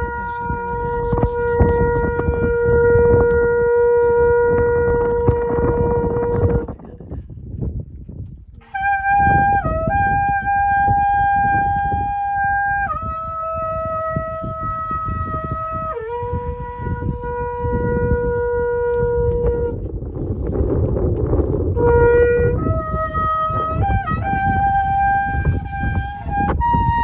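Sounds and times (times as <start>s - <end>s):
shofar blasts: 0.0s - 6.8s, 8.6s - 27.0s
low rumbling noise: 0.0s - 27.0s.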